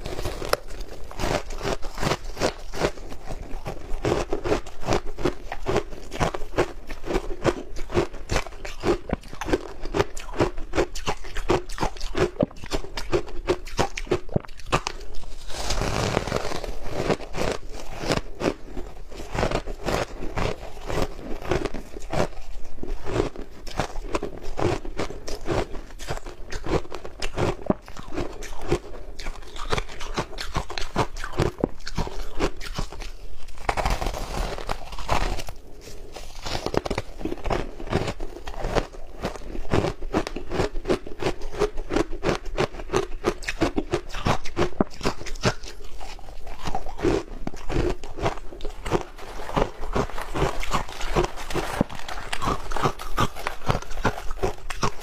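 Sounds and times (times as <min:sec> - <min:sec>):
ice cubes crunching: 0:00.0 - 0:55.0.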